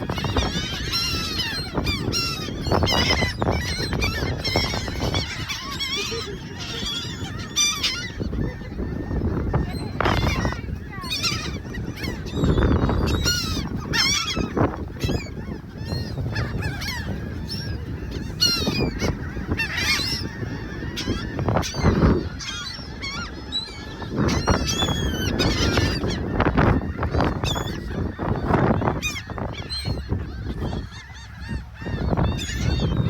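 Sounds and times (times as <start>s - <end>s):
seagulls squawking: 0.0s - 33.0s.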